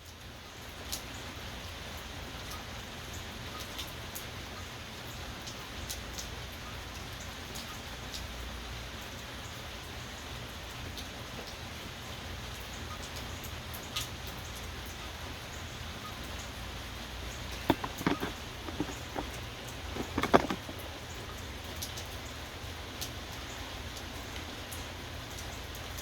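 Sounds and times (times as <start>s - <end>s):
raindrops ticking close by: 0.0s - 17.7s, 20.7s - 26.0s
steady rain hiss: 0.0s - 26.0s.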